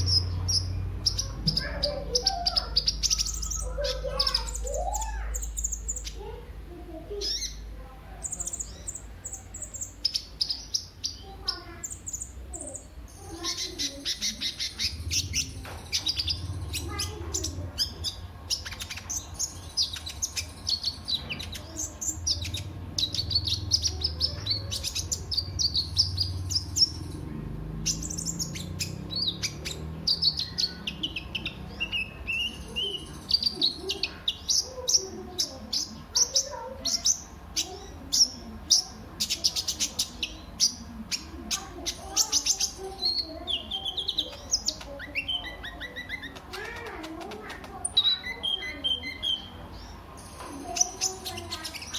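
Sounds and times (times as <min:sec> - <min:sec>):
bird chirping and twittering: 0:00.0 - 0:51.9.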